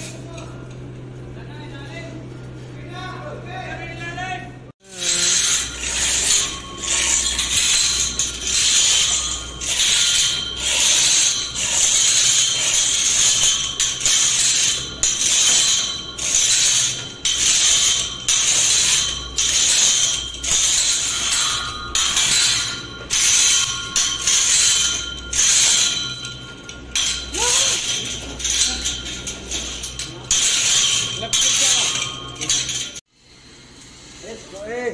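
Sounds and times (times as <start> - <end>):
hoist chain rattling: 4.9 - 33.1
ratchet clicking: 5.0 - 33.0.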